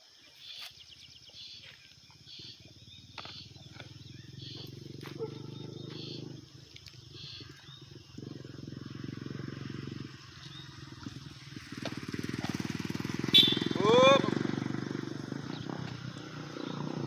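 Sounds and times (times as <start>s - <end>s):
small engine puttering: 2.3s - 17.0s.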